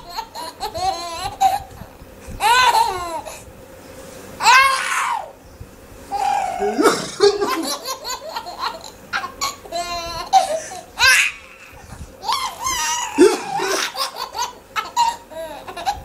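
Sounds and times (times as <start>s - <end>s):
young child laughing: 0.0s - 3.3s, 6.1s - 16.0s.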